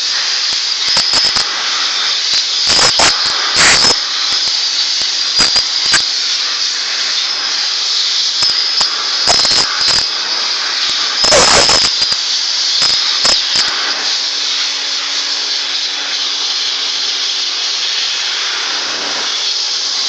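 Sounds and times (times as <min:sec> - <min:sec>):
electric air blower whining: 0:00.0 - 0:20.0.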